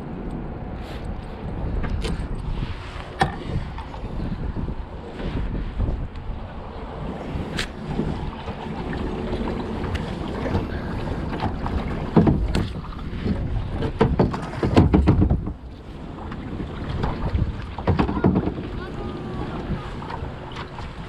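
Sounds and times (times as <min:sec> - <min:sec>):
wind buffeting microphone: 0:00.0 - 0:21.0
knocks and splashes against hull: 0:01.6 - 0:06.3, 0:07.0 - 0:21.0.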